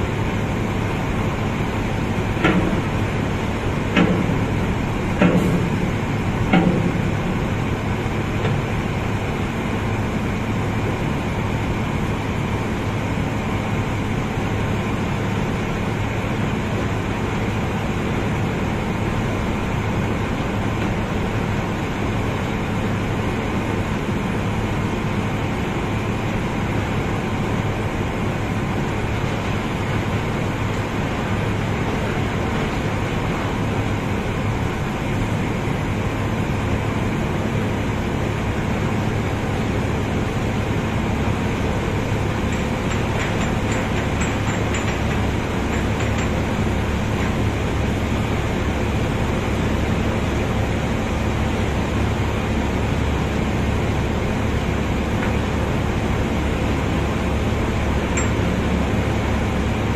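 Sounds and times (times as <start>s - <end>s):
heavy machinery droning: 0.0s - 59.9s.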